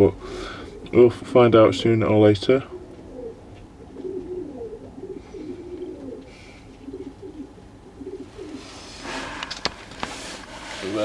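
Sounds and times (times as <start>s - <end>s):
pigeons cooing: 0.0s - 1.3s, 2.4s - 11.0s.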